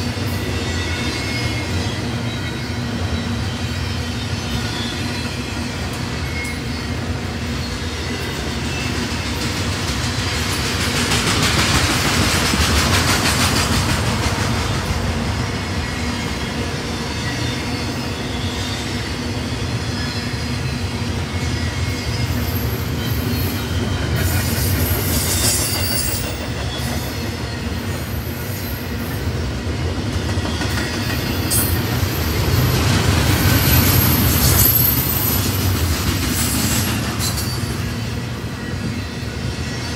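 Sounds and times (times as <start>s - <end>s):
freight train rumbling past: 0.0s - 39.9s
high wheel squeal: 0.2s - 9.3s, 15.8s - 29.3s, 30.4s - 39.9s.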